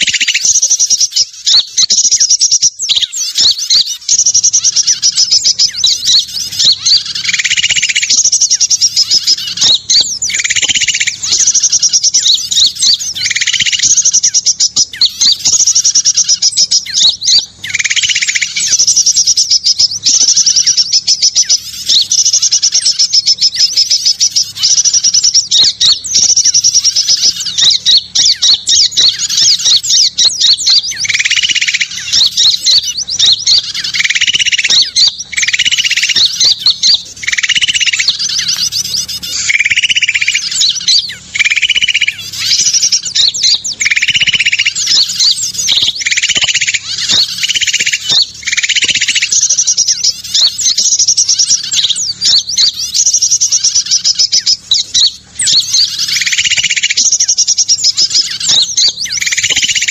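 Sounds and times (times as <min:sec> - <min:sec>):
small songbirds chirping and trilling: 0:00.0 - 0:59.9.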